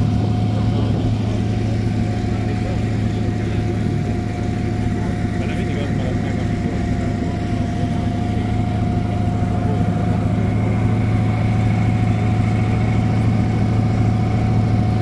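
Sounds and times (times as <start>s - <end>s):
steady whine: 0.0s - 15.0s
vehicle engine running steadily: 0.0s - 15.0s.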